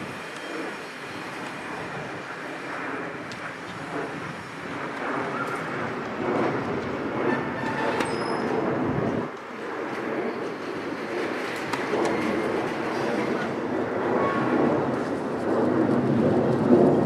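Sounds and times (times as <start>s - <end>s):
steady rushing rumble: 0.0s - 17.0s.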